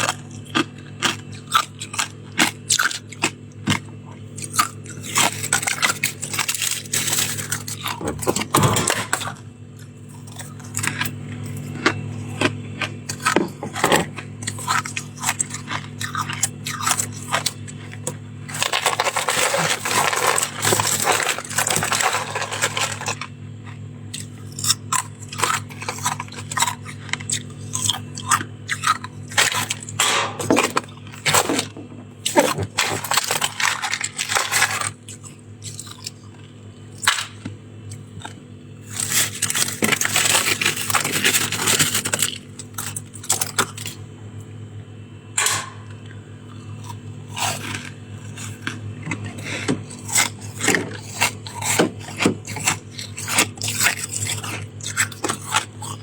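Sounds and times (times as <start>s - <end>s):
ice crunching being chewed: 0.0s - 56.0s
low hum: 3.8s - 52.4s.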